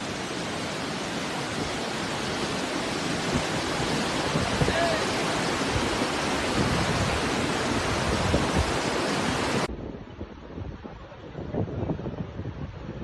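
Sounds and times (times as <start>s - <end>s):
gusty wind rushing: 0.0s - 13.0s
rushing storm noise: 0.0s - 13.0s.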